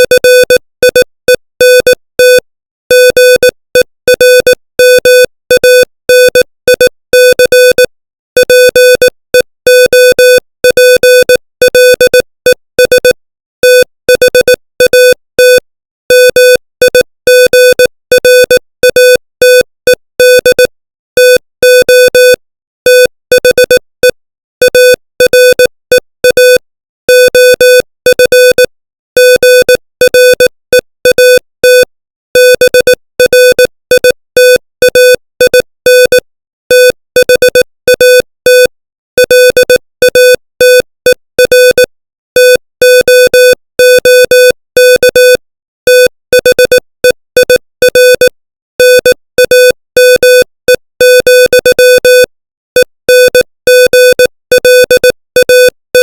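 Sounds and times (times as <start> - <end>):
morse code beeps: 0.0 - 56.0.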